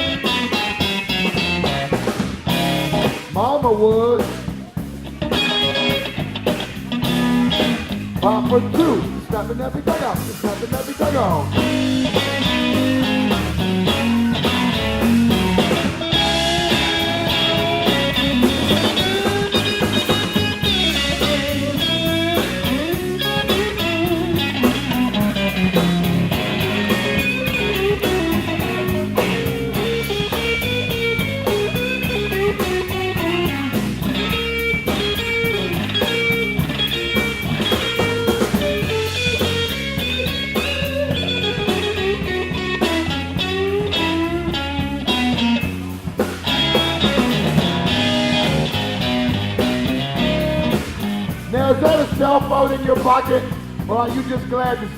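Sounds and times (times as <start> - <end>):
bass and drums beat: 0.0 - 54.9
electric guitar lead lines: 0.0 - 54.9.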